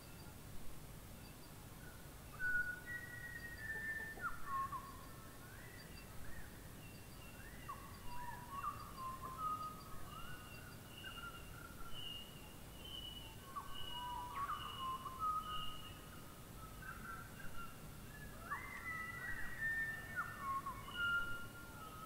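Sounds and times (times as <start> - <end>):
birds singing whistled notes: 1.1 - 22.0.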